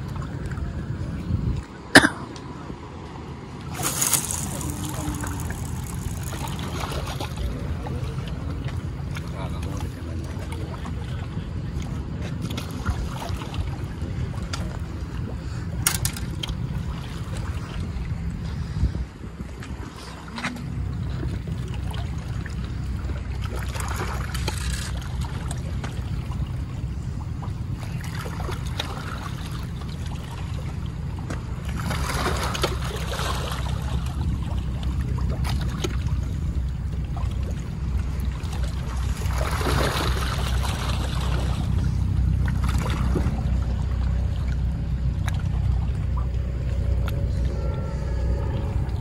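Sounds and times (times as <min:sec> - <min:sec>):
steady low rumble: 0:00.0 - 0:49.0
water washing and splashing: 0:02.9 - 0:18.8, 0:19.5 - 0:49.0.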